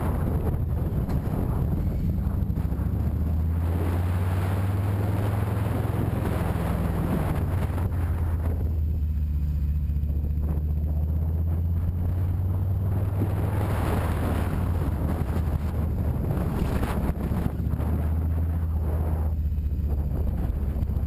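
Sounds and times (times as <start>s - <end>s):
motorcycle engine cruising: 0.0s - 21.0s
wind rushing over microphone: 0.0s - 21.0s.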